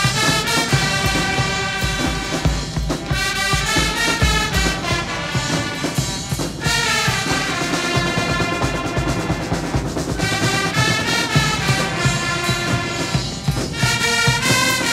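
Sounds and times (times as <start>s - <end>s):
marching brass band: 0.0s - 14.9s.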